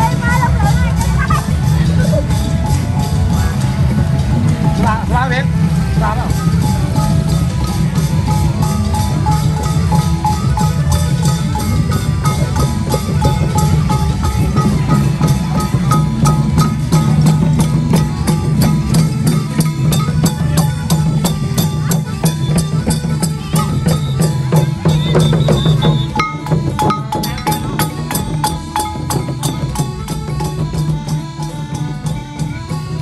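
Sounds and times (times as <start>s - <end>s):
drum strikes: 0.0s - 33.0s
held melody notes: 0.0s - 33.0s
wood block percussion: 0.0s - 33.0s.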